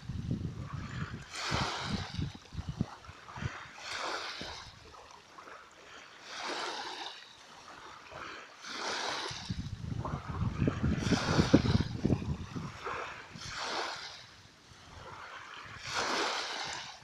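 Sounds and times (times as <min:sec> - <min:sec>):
small sea waves washing in: 0:00.0 - 0:17.0.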